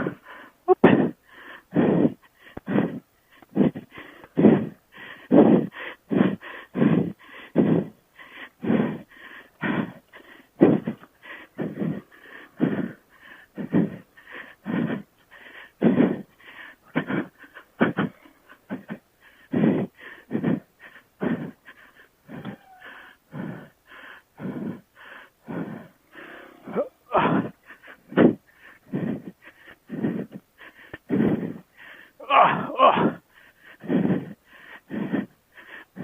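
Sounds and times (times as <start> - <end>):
man breathing hard: 0.0 - 36.0.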